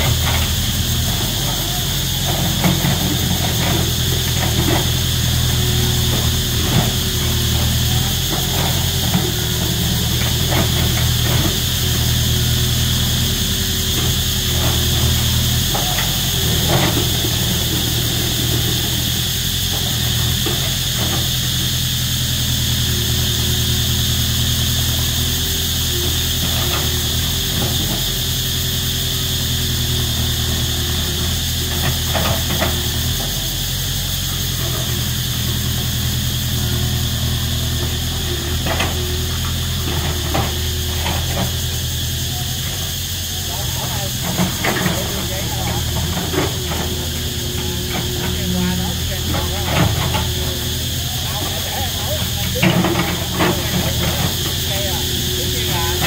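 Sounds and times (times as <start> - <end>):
cicadas buzzing: 0.0 - 56.0
excavator diesel engine running: 0.0 - 56.0.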